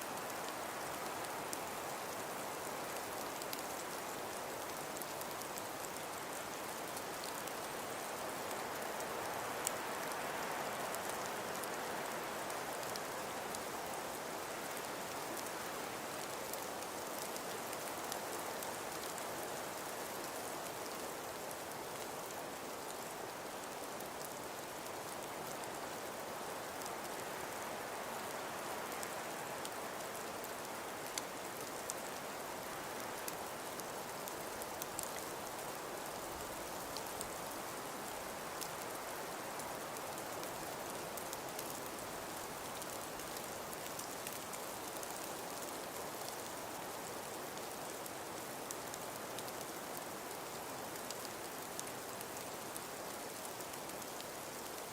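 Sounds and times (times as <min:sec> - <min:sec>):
wind-blown snowfall hiss: 0:00.0 - 0:54.9.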